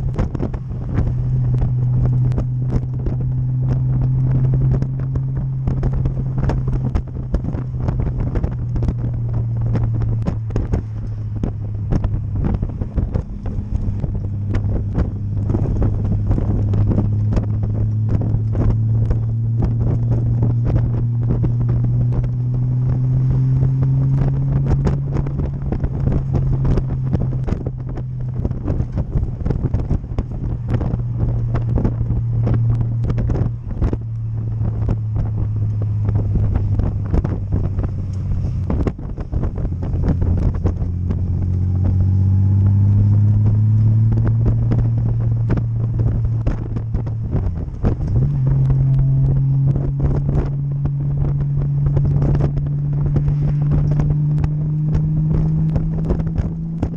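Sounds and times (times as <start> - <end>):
vehicle engine droning: 0.0 - 56.9
wind buffeting microphone: 0.0 - 56.9.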